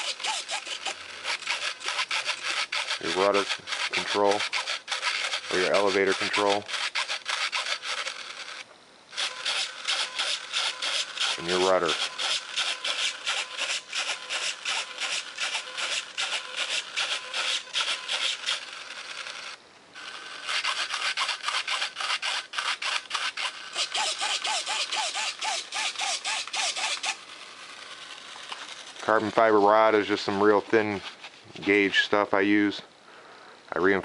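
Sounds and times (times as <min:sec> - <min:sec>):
servos buzzing back and forth: 0:00.0 - 0:32.1.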